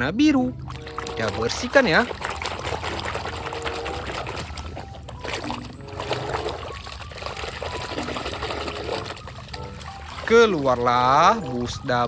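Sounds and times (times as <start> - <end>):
water trickling: 0.4 - 12.0.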